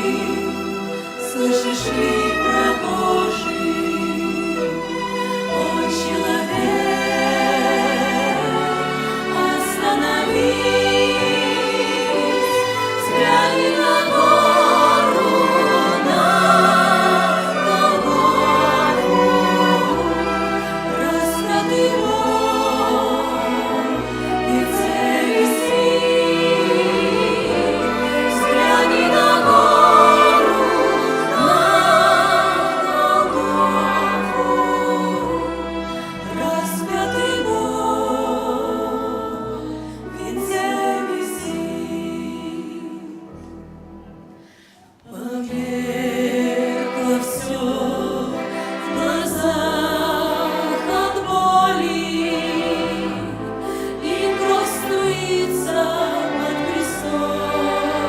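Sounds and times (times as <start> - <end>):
church choir singing: 0.0 - 58.0.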